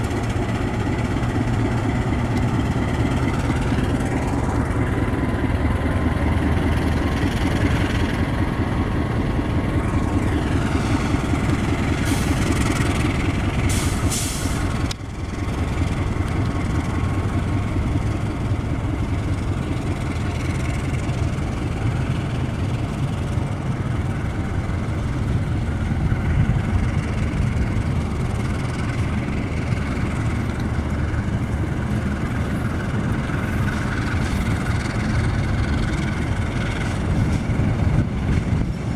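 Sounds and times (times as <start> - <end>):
diesel locomotive engine running: 0.0 - 38.9.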